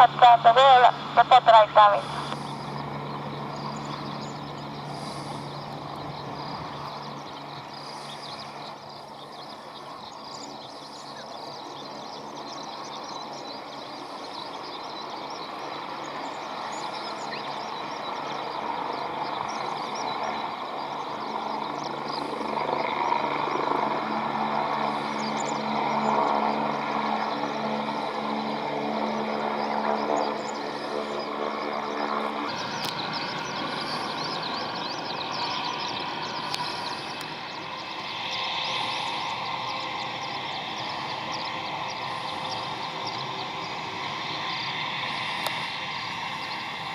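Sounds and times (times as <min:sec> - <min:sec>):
aircraft engine hum: 0:00.0 - 0:46.9.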